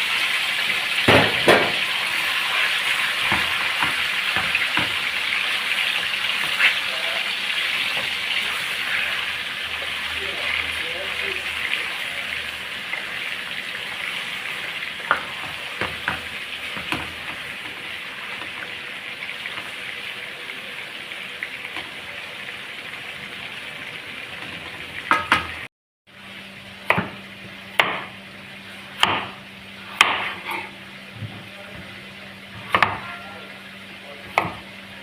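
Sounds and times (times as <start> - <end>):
food sizzling in hot fat: 0.0 - 35.0.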